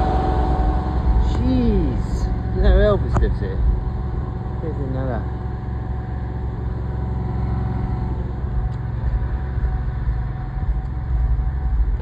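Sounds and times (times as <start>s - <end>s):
engine droning steadily: 0.0s - 12.0s.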